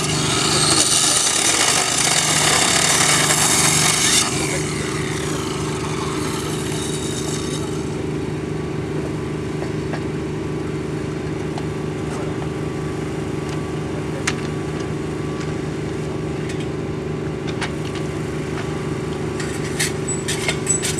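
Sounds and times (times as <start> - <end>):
small engine running: 0.0 - 20.9.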